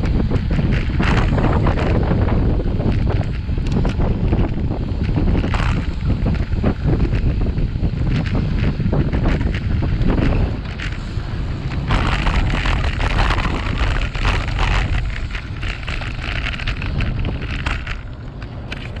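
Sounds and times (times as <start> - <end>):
tyre and road noise: 0.0 - 19.0
wind buffeting microphone: 0.0 - 19.0.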